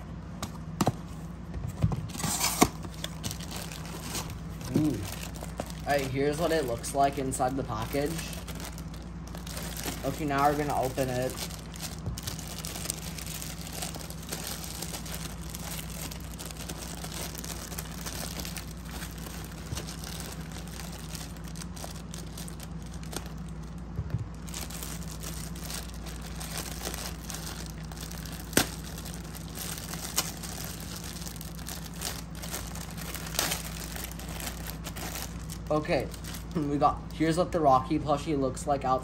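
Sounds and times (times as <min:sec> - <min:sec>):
steady low hum: 0:00.0 - 0:39.0
plastic bag crinkling: 0:02.0 - 0:37.3.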